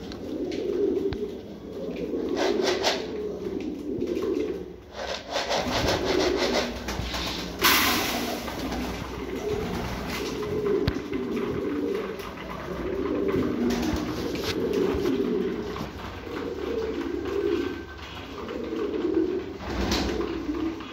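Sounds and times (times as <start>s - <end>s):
pigeons cooing: 0.0s - 20.9s.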